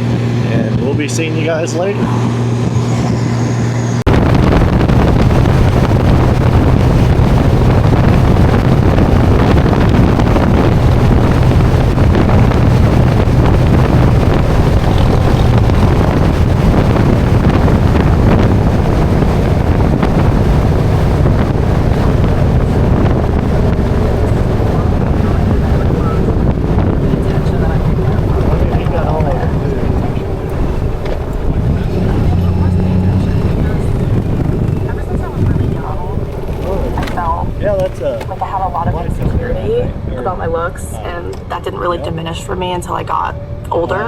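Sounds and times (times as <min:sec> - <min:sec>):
motorcycle engine drone: 0:00.0 - 0:44.0
wind rushing over microphone: 0:00.0 - 0:44.0.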